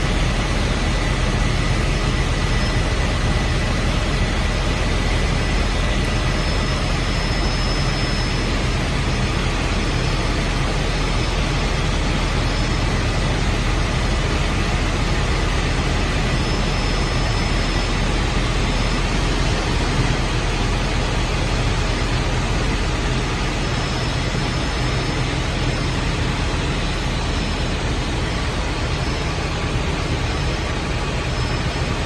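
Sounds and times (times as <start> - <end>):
faint high whine: 0.0 - 32.0
helicopter engine and rotor noise: 0.0 - 32.0.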